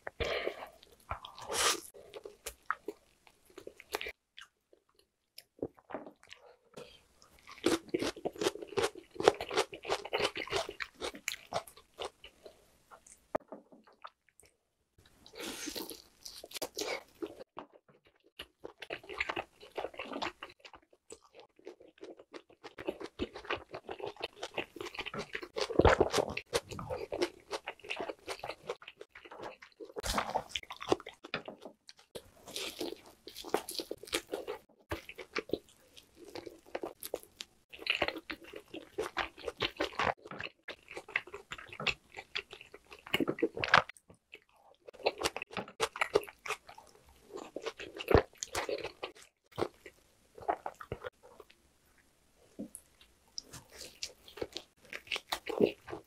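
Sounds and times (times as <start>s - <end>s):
chewing meat: 0.0s - 14.5s, 15.2s - 56.0s.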